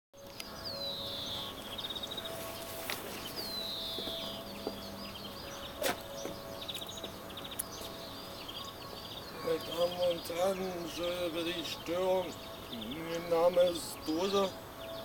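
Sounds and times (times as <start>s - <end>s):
outdoor background noise: 0.2s - 15.0s
songbird whistle and trill: 0.2s - 15.0s.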